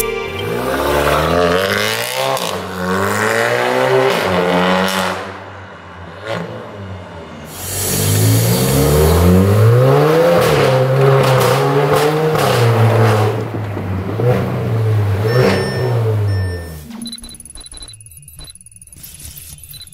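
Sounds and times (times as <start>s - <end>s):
car engine accelerating: 0.0s - 16.9s.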